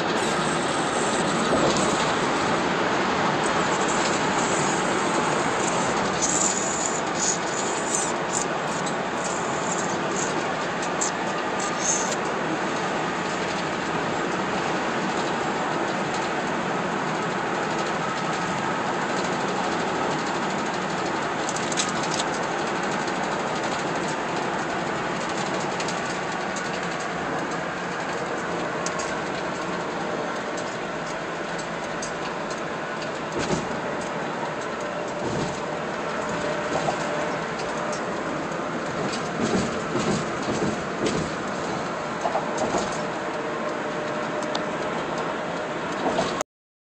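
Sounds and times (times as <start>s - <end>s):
tyre and road noise: 0.0s - 46.4s.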